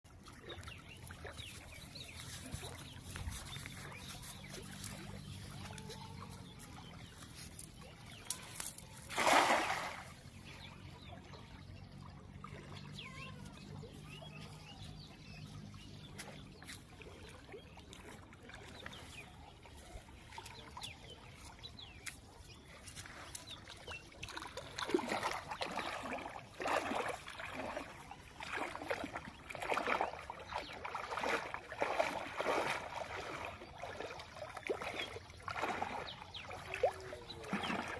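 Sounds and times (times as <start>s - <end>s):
water splashing and sloshing: 0.1s - 37.9s.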